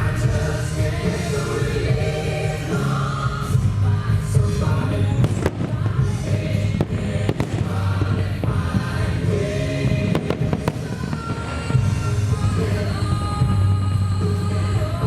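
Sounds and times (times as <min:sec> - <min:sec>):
choir singing: 0:00.0 - 0:15.0
fireworks bangs and crackles: 0:00.0 - 0:15.0
loud show music: 0:00.0 - 0:15.0.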